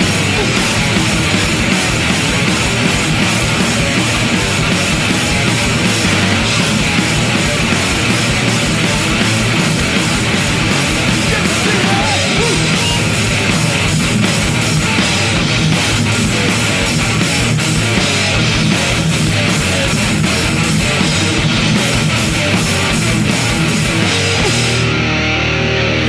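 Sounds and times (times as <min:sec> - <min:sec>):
pounding drums: 0:00.0 - 0:24.9
distorted electric guitar: 0:00.0 - 0:26.0.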